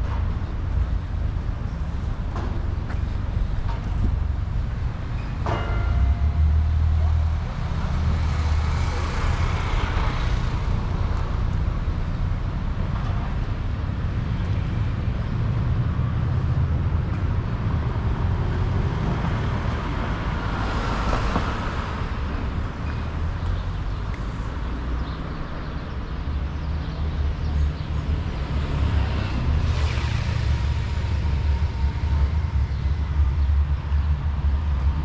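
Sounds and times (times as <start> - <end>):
cars passing rumble: 0.0 - 35.0.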